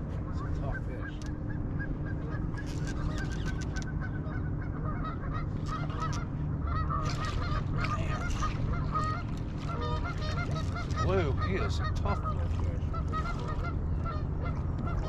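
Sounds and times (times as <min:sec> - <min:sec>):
low rumble of wind and water: 0:00.0 - 0:15.0
waterfowl honking: 0:00.2 - 0:15.0.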